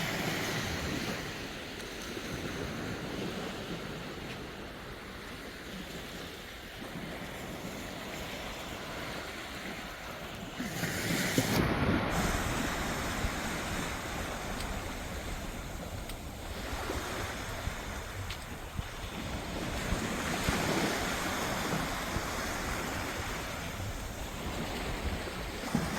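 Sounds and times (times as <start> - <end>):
sea waves breaking on beach: 0.0 - 25.9.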